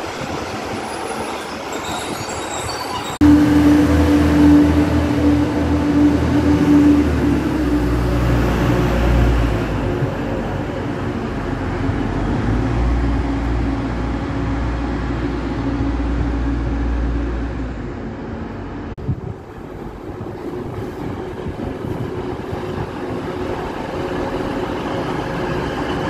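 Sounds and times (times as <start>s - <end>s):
diesel train engine drone: 3.0s - 26.0s.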